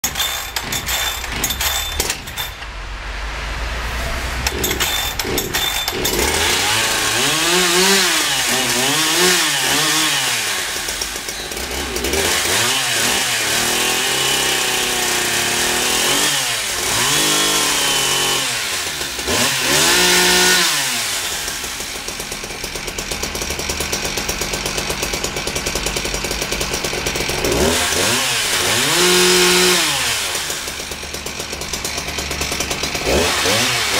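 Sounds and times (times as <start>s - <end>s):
chainsaw revving: 0.0s - 2.7s, 4.3s - 33.9s.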